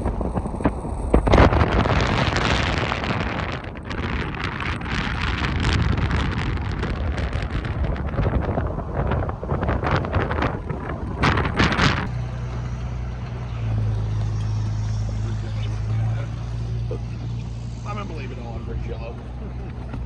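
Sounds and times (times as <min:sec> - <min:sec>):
low engine hum: 0:00.0 - 0:20.0
wind buffeting microphone: 0:00.0 - 0:20.0.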